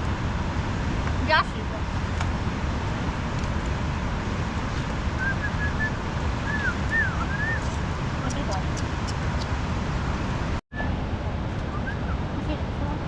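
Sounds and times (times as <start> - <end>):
low rushing noise: 0.0 - 13.0.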